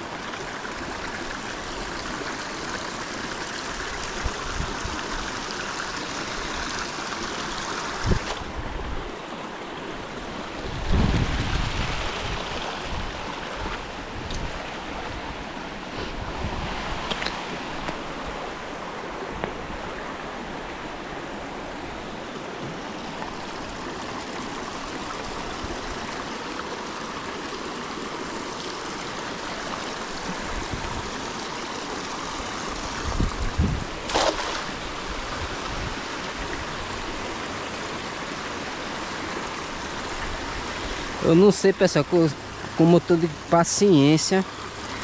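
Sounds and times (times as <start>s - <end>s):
stream water running: 0.0s - 45.0s.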